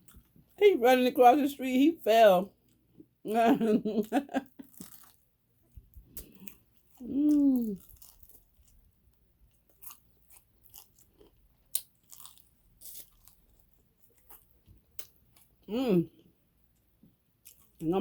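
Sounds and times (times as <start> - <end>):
chewing and crunching food: 0.0 - 0.6, 4.0 - 18.0.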